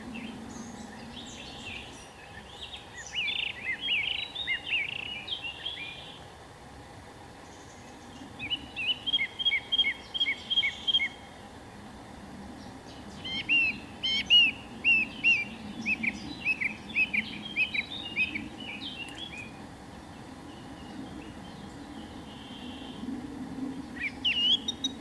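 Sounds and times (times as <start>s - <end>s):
bird chirping: 0.0s - 6.2s, 7.4s - 11.4s, 12.6s - 23.1s, 23.8s - 25.0s
low background noise: 0.0s - 25.0s.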